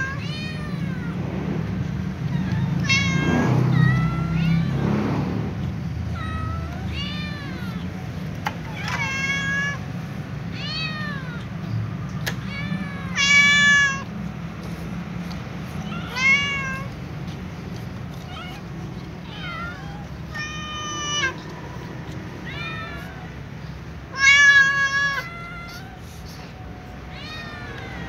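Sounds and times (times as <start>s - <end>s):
kittens and cats meowing: 0.0s - 28.0s.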